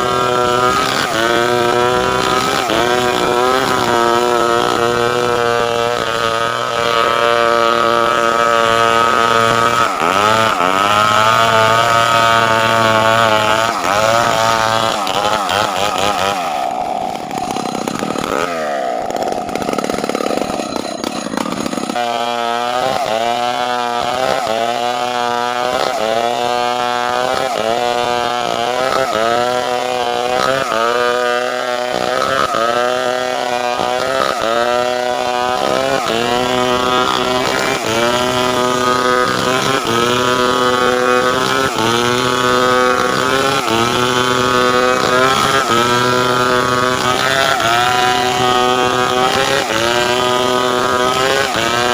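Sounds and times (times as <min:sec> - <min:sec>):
chainsaw cutting timber: 0:00.0 - 0:51.9.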